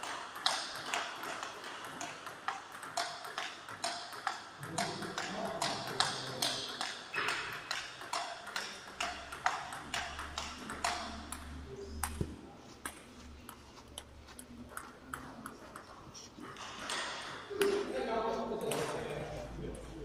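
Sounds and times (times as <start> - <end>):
table tennis balls clicking: 0.0 - 17.9.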